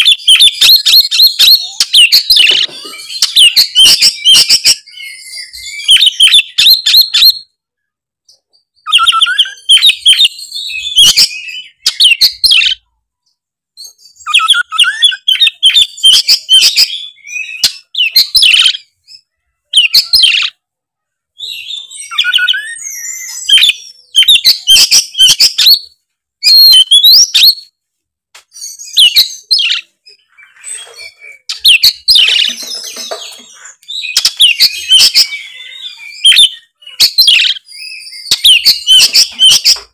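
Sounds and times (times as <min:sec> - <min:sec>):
magpie-robin singing: 0:00.0 - 0:07.6, 0:08.2 - 0:13.0, 0:13.8 - 0:20.6, 0:21.4 - 0:27.8, 0:28.5 - 0:39.9.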